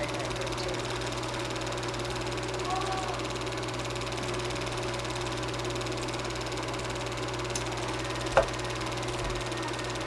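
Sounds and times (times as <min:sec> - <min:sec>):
film projector running: 0:00.0 - 0:10.0.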